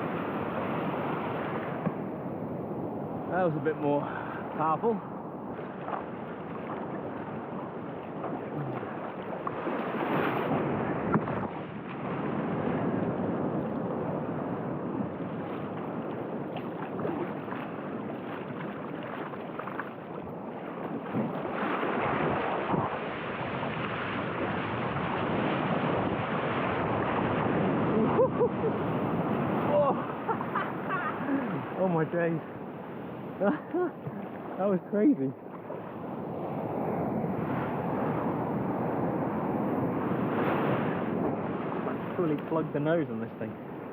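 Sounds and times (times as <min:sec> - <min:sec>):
rushing surf: 0:00.0 - 0:43.9
wind buffeting microphone: 0:00.0 - 0:43.9.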